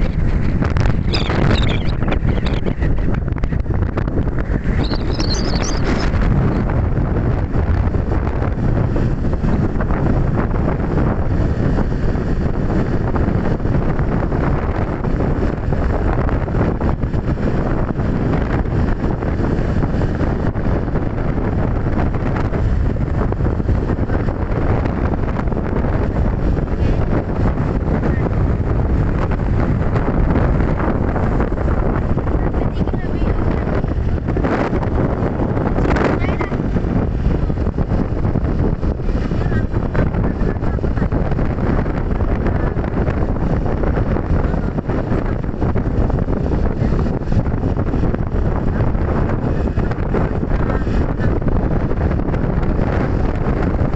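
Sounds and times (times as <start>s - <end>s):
storm wind buffeting microphone: 0.0s - 53.9s.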